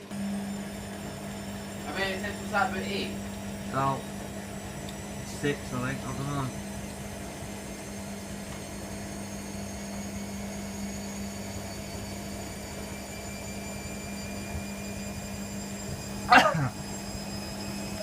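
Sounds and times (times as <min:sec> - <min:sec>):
washer-dryer humming and whining: 0:00.0 - 0:18.0.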